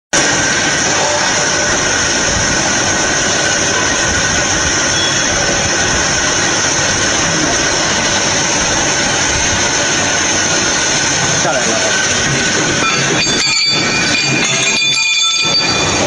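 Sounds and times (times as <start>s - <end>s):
band saw running: 0.2s - 16.0s
high-pitched whine: 0.2s - 16.0s.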